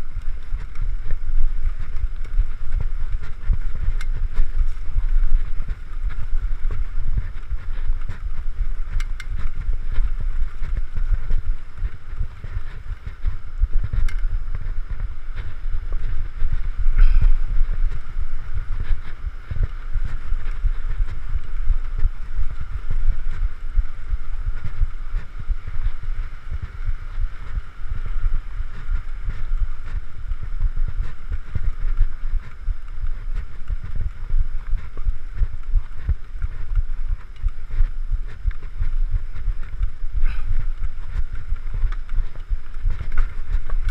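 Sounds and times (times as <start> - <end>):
rumble of bike tyres on trail: 0.0 - 43.9
wind buffeting microphone: 0.0 - 43.9.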